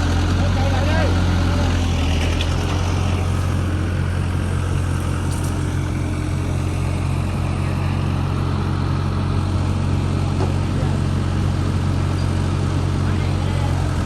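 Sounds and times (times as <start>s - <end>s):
excavator engine running: 0.0s - 14.0s.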